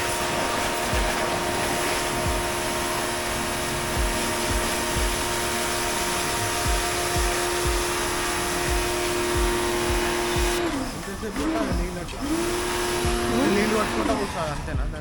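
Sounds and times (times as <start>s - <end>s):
pressure washer motor hum: 0.0s - 15.0s
short low thumps: 0.0s - 15.0s
spray hissing: 0.0s - 15.0s.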